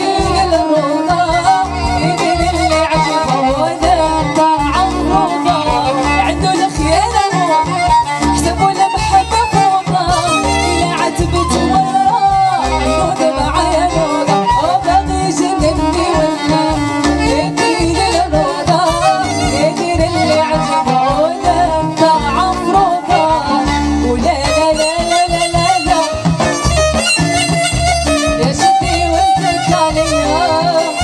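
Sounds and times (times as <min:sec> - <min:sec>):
electric guitar: 0:00.0 - 0:31.0
woman singing into microphone: 0:00.0 - 0:31.0
pulsing bass line: 0:01.2 - 0:31.0.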